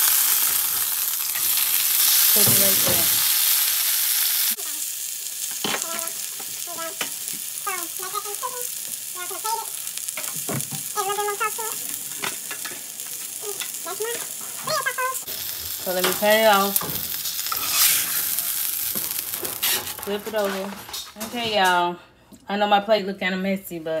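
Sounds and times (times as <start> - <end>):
taco sizzling in oil: 0.0 - 21.2.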